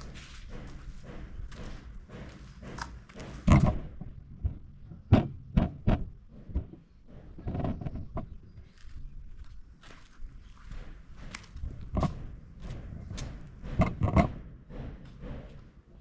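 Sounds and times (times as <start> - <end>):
sharp knocks and thuds: 0.0 - 8.4, 9.8 - 15.7.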